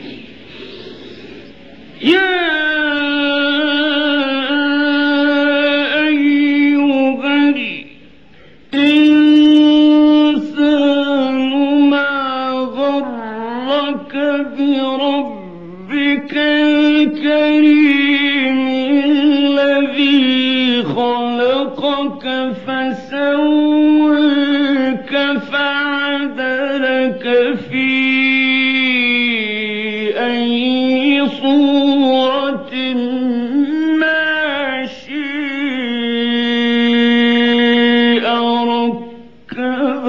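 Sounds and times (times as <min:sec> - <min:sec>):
man chanting: 0:02.0 - 0:08.1, 0:08.7 - 0:40.0.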